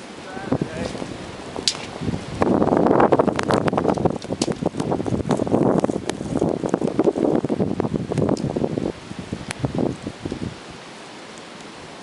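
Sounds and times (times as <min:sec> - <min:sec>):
wind gusting over microphone: 0:00.0 - 0:12.0.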